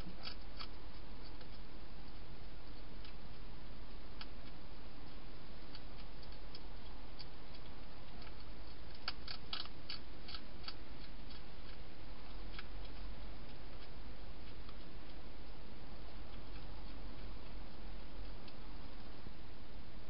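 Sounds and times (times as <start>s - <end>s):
hedgehog crunching dry food: 0.0s - 19.2s
steady hiss: 0.0s - 20.0s.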